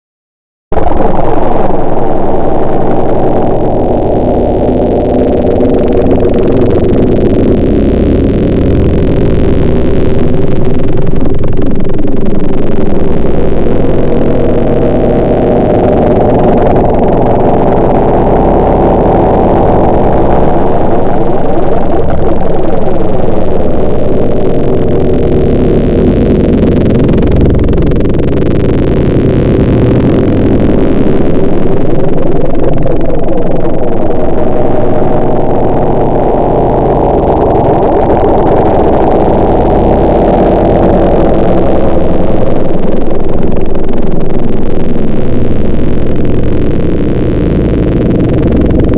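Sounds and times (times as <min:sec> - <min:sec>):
motor running loudly: 0:00.7 - 0:48.9.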